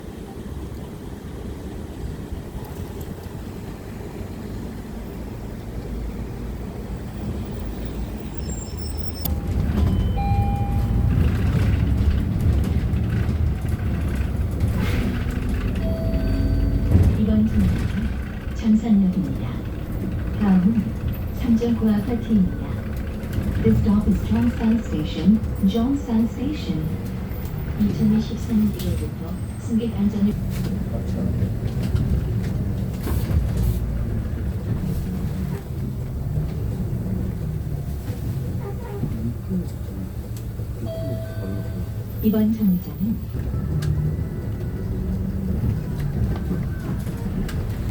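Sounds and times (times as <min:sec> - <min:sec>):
bus engine and road rumble: 0:00.0 - 0:47.9.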